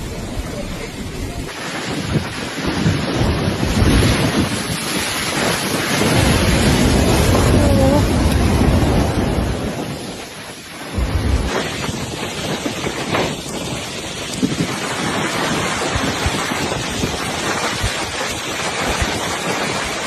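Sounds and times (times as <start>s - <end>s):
surf crashing and churning: 0.0s - 20.0s
wind buffeting microphone: 0.0s - 20.0s.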